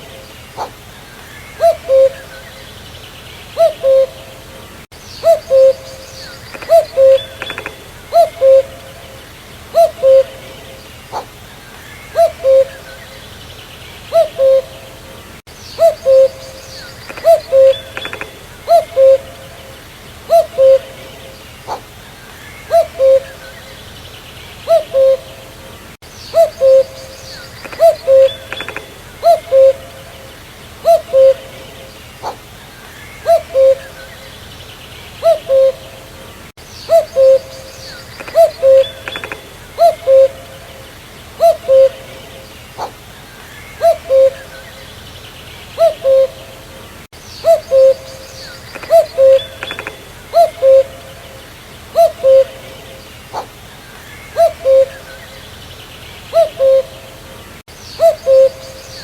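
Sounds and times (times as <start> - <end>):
cuckoo calling: 0.0 - 2.8, 3.4 - 13.4, 14.1 - 24.0, 24.6 - 34.5, 35.2 - 45.0, 45.7 - 55.6, 56.3 - 59.0
faint bird chirps: 5.0 - 25.5, 26.1 - 34.5, 36.6 - 59.0.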